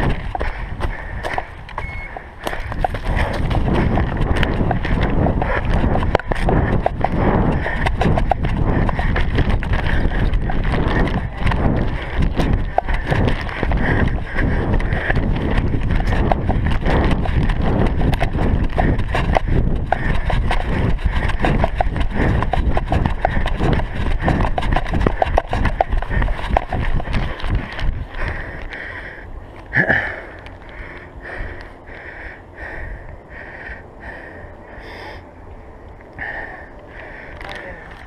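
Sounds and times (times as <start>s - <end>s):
wind buffeting microphone: 0.0s - 34.8s.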